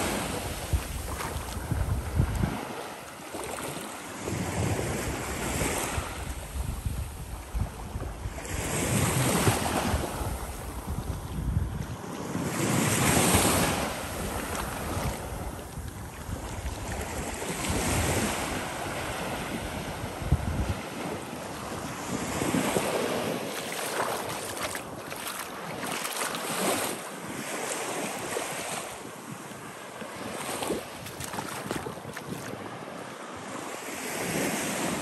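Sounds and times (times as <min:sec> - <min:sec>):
wind rumbling on microphone: 0:00.0 - 0:03.0, 0:04.2 - 0:35.0
surf washing on sandy beach: 0:00.0 - 0:35.0.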